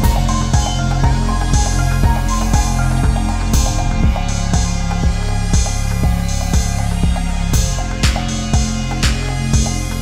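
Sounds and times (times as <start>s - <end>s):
electronic music: 0.0s - 10.0s
steady drum beat: 0.0s - 10.0s
sustained bass: 0.0s - 10.0s.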